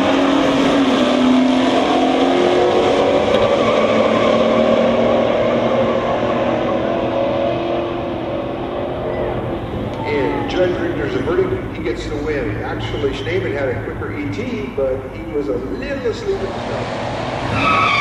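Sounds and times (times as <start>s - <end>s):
engines accelerating hard: 0.0s - 18.0s.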